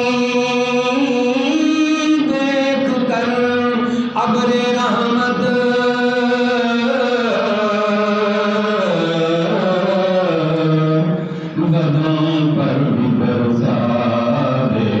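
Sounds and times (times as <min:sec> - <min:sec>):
man chanting long held notes: 0:00.0 - 0:15.0.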